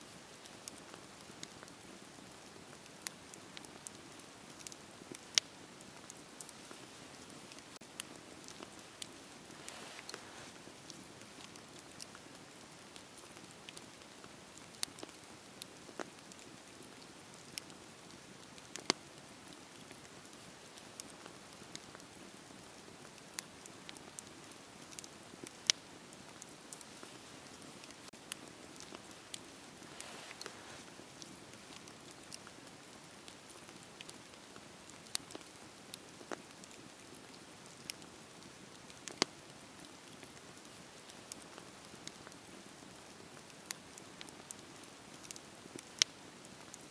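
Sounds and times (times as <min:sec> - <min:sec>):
fire crackling and popping: 0:00.1 - 0:46.9.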